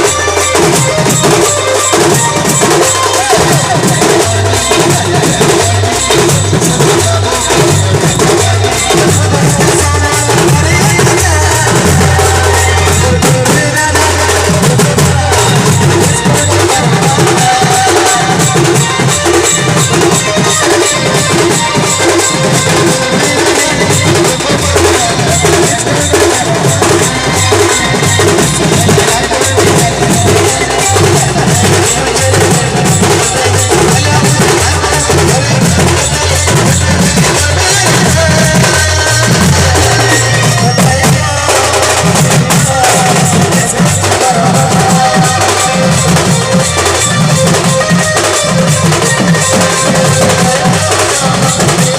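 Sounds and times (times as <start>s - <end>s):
band music with drum beat: 0.0s - 51.9s.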